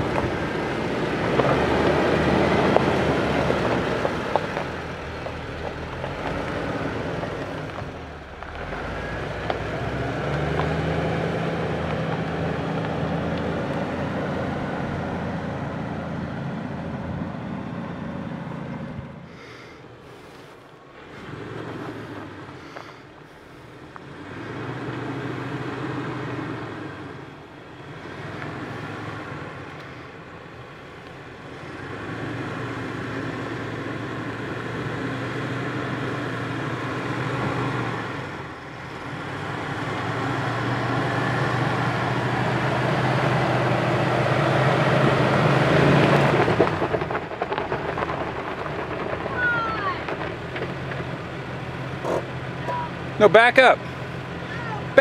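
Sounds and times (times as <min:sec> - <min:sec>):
tyres crunching over gravel: 0:00.0 - 0:18.2, 0:19.3 - 0:55.0
engine running at low revs: 0:00.0 - 0:55.0.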